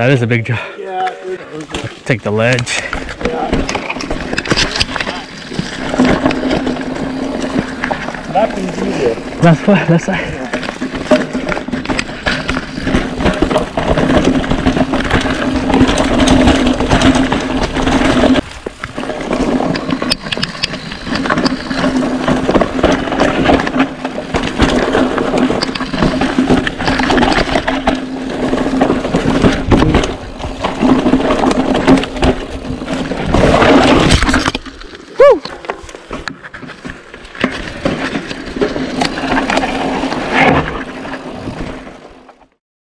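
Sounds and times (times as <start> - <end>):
bike rattling on dirt trail: 0.0 - 42.6.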